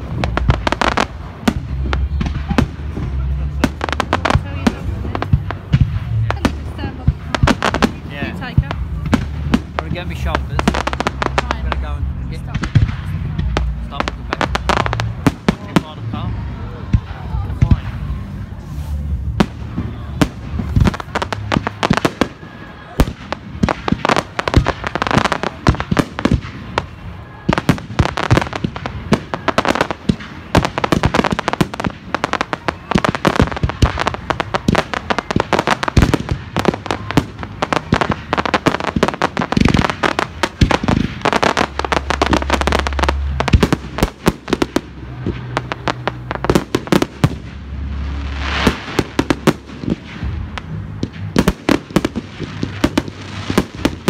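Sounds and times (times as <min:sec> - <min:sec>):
deep firework booms: 0:00.0 - 0:54.0
fireworks bangs and crackling: 0:00.0 - 0:54.0.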